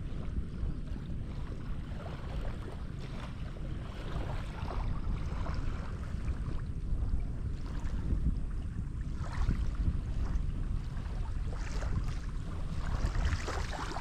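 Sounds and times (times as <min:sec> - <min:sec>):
water lapping and splashing: 0:00.0 - 0:14.0
wind buffeting microphone: 0:00.0 - 0:14.0.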